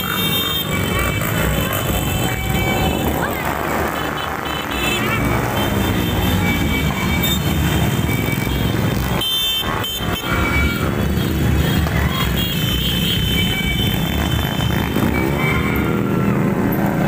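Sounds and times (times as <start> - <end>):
motorcycles passing: 0.0 - 17.0.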